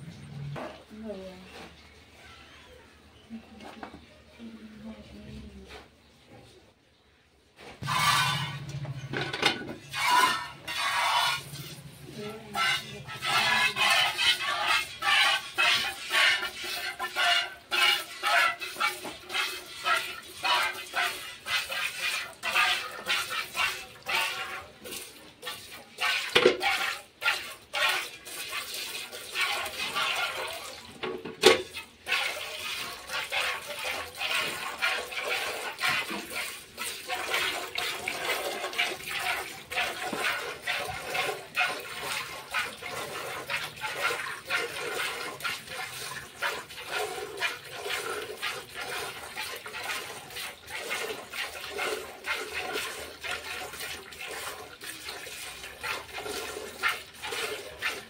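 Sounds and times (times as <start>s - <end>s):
milk squirting into metal pail: 7.7s - 58.0s.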